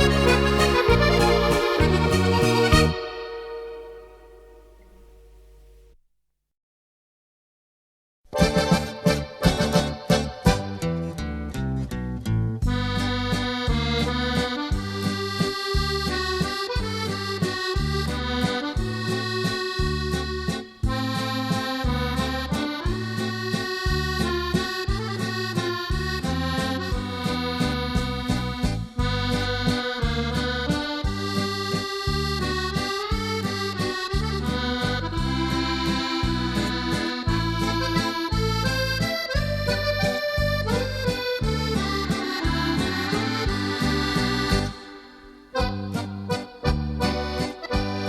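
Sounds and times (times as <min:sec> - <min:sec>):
accordion music: 0:00.0 - 0:06.0, 0:08.3 - 0:11.6, 0:12.6 - 0:48.0.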